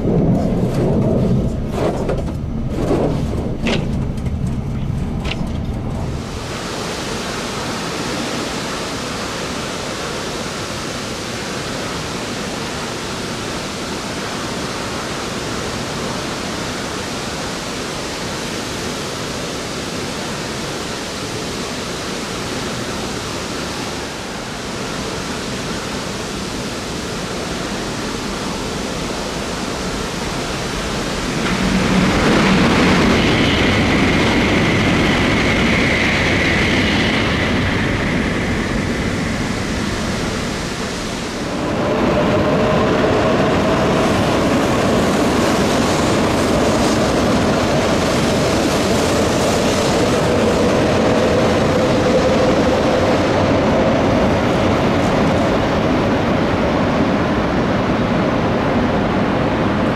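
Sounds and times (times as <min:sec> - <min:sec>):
train passing at speed: 0:00.0 - 0:59.9.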